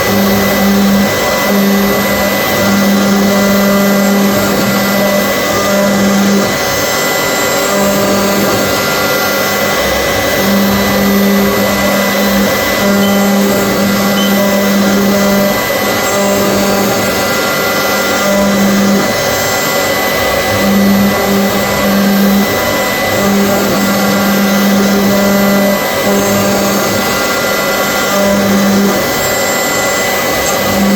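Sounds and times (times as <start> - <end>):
machine whining: 0.0 - 30.9.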